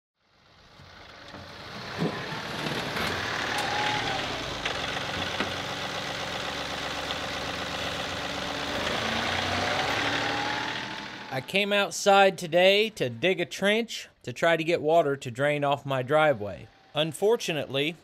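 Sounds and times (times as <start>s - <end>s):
tractor diesel engine running: 0.2s - 13.8s, 15.4s - 18.0s.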